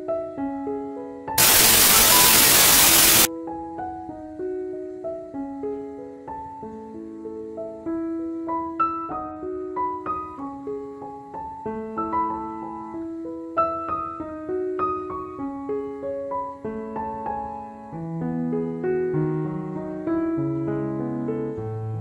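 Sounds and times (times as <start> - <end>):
gentle piano melody: 3.4 - 22.0.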